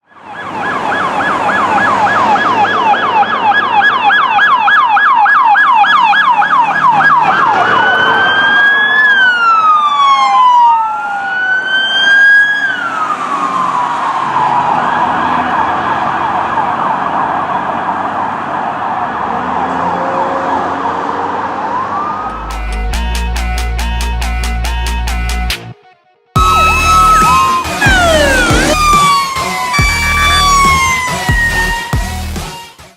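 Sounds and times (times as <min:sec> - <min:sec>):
police sirens yelping and wailing: 0:00.0 - 0:23.4, 0:26.4 - 0:32.8.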